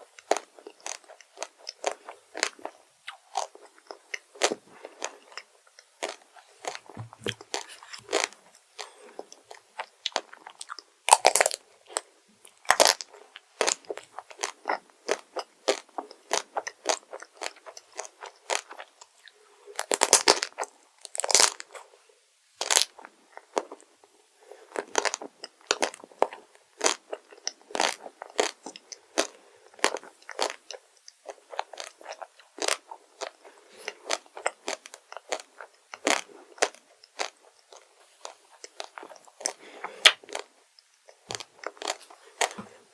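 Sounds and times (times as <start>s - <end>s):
person chewing crunchy food: 0.2s - 21.8s, 22.6s - 23.9s, 24.6s - 42.9s.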